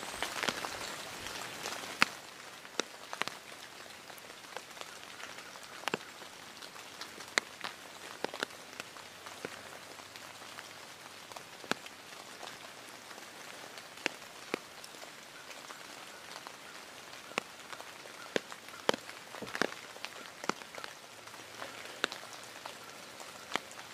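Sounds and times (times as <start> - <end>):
rain falling in woodland: 0.0 - 23.9
single raindrops ticking: 0.0 - 23.9.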